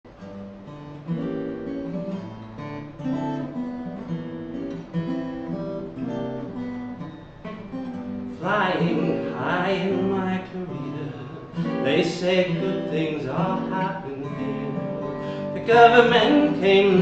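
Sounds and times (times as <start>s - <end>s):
acoustic guitar strumming: 0.1s - 17.0s.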